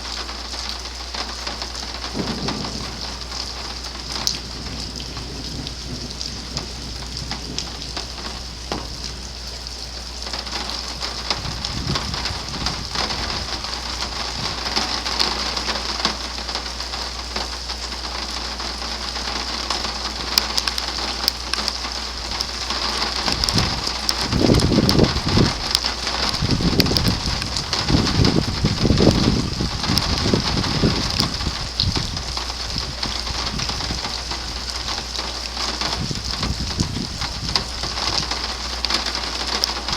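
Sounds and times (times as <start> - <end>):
heavy rain falling: 0.0 - 39.9
thunder rumbling: 1.2 - 17.0, 19.7 - 39.9.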